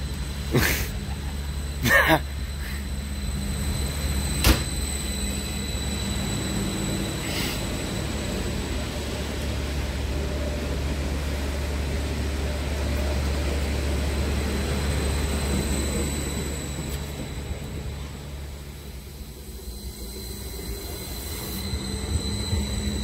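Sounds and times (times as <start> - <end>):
train rumbling past: 0.0 - 23.0.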